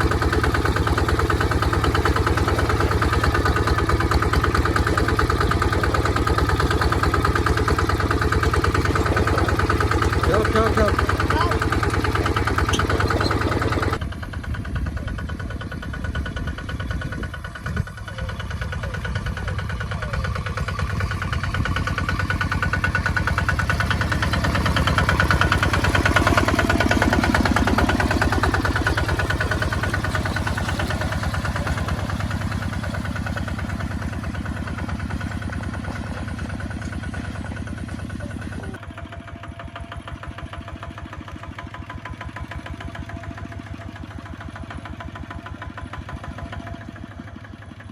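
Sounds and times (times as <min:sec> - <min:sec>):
diesel tractor engine chugging: 0:00.0 - 0:47.9.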